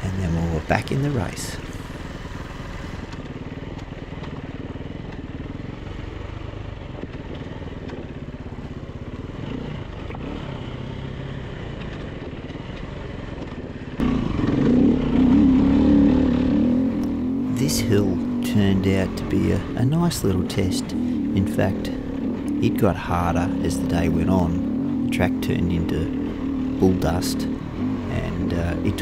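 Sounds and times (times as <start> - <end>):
motorbike engine running: 0.0 - 29.0.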